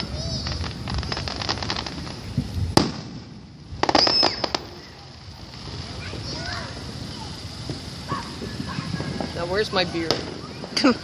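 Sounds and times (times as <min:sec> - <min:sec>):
firework bang: 0:00.0 - 0:11.0
fireworks crackling pops: 0:00.0 - 0:11.0.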